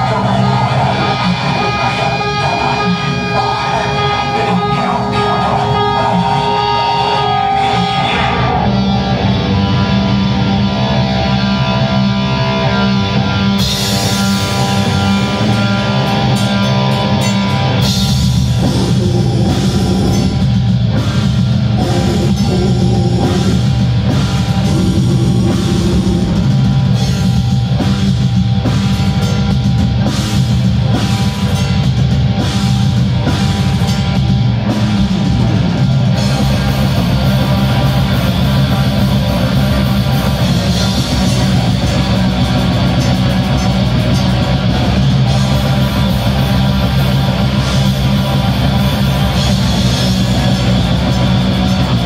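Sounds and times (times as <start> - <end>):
distorted electric guitars: 0.0 - 52.0
drum kit: 0.0 - 52.0.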